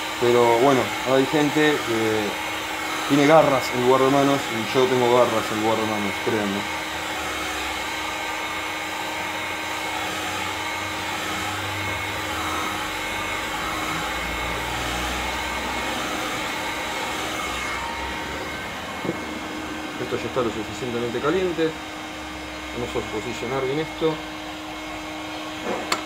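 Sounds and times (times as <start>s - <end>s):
heat gun fan blowing: 0.0s - 26.0s.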